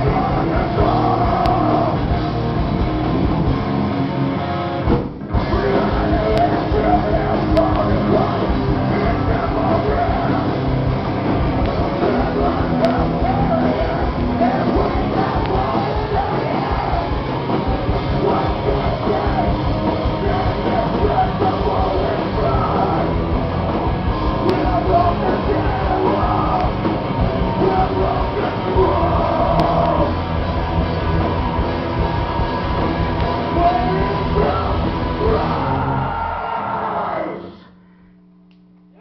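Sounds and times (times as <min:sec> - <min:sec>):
rock band playing: 0:00.0 - 0:36.6.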